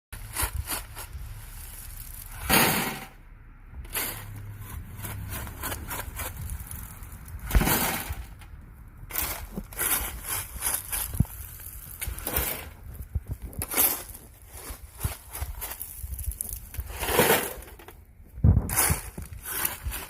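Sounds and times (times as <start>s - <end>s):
shovel scooping backfill: 0.2s - 3.2s, 3.8s - 8.4s, 9.1s - 20.0s.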